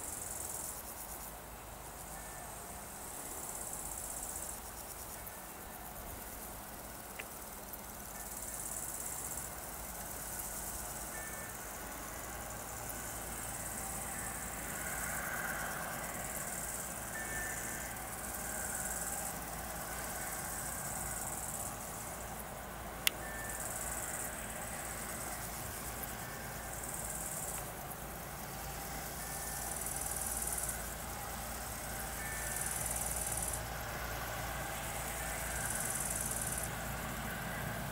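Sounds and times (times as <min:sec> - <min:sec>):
diesel train engine drone: 0:00.0 - 0:37.9
insects chirping: 0:00.0 - 0:37.9.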